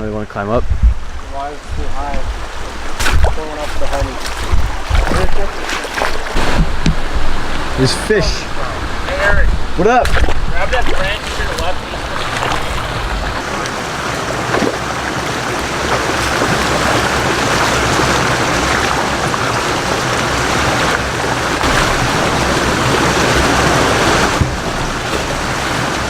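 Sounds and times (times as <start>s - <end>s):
waterfall rushing water: 1.2s - 26.0s.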